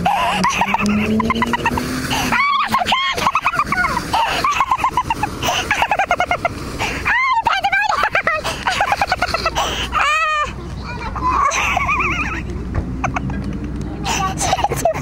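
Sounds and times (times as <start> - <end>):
woman giggling hysterically: 0.0 - 10.5, 11.4 - 12.4, 14.3 - 15.0.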